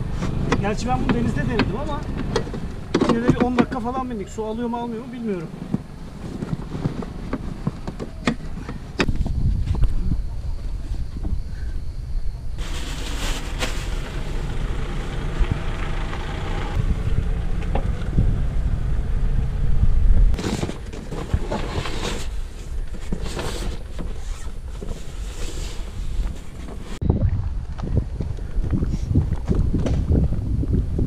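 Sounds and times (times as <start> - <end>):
vehicle rumbling: 0.0 - 31.0
wind noise on microphone: 0.0 - 31.0.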